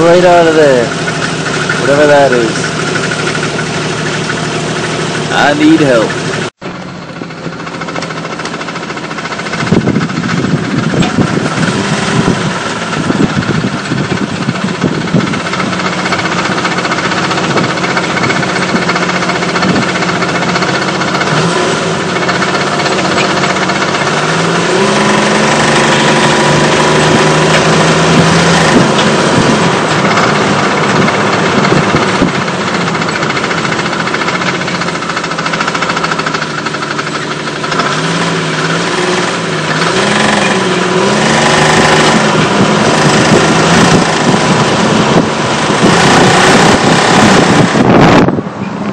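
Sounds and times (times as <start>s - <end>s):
car engine running: 0.0s - 48.9s
rapid engine clicking: 0.0s - 48.9s.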